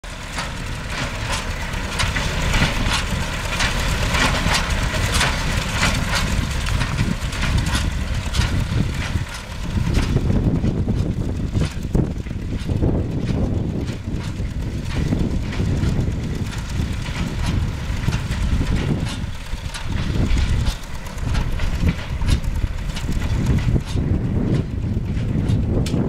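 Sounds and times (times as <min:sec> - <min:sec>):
tractor diesel engine rumble: 0:00.0 - 0:26.0
hay baler mechanism knocking: 0:00.1 - 0:26.0
wind on the microphone: 0:04.6 - 0:26.0.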